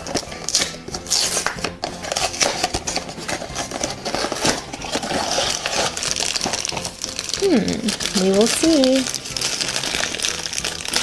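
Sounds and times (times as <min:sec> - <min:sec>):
cardboard box being opened: 0:00.0 - 0:11.0.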